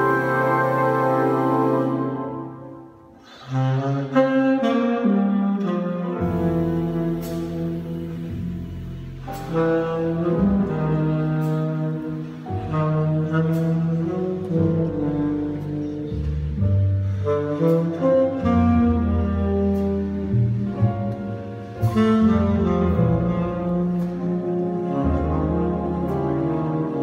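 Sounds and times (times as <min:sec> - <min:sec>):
saxophone: 0:00.0 - 0:08.5, 0:09.2 - 0:27.0
double bass line: 0:00.0 - 0:27.0
jazz orchestra playing slow piece: 0:00.0 - 0:27.0.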